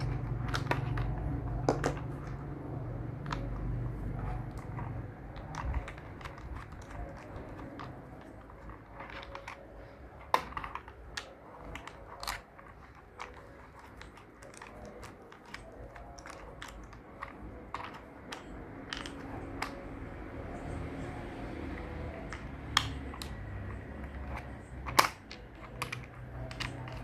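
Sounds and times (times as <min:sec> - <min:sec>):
plastic bricks clicking: 0:00.0 - 0:27.0.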